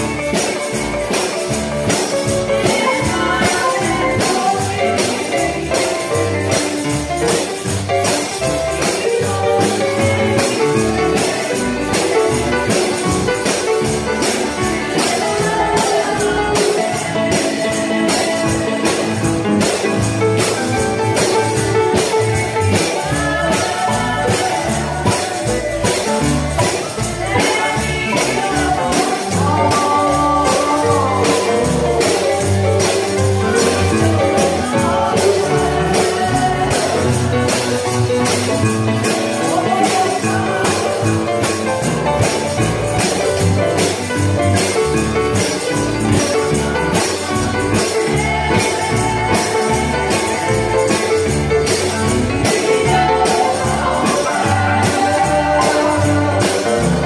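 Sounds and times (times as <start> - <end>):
gospel instruments playing melody: 0.0 - 57.0
jingling percussion beat: 0.0 - 57.0.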